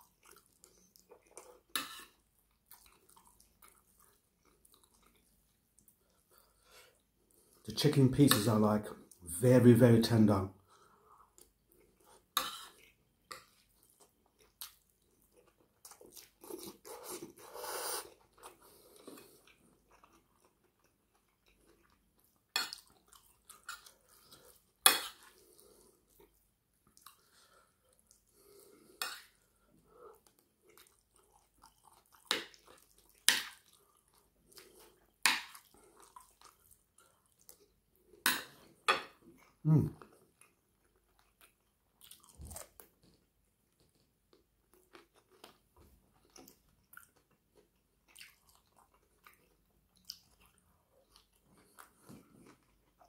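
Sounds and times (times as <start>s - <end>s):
chewing: 0.0s - 7.6s, 10.8s - 53.0s.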